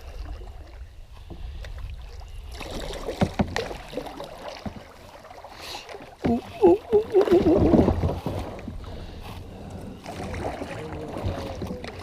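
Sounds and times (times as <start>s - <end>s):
paddle strokes splashing water: 0.0s - 12.0s.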